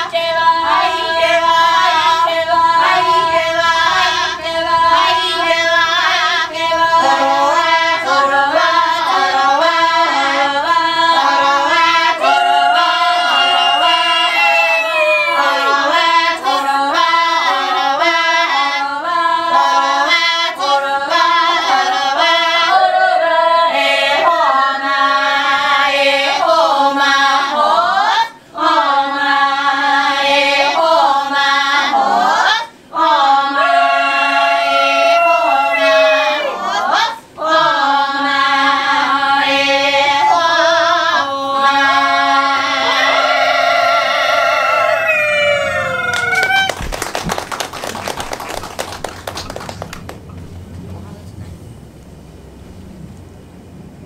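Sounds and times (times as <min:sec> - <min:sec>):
group of women singing: 0:00.0 - 0:45.0.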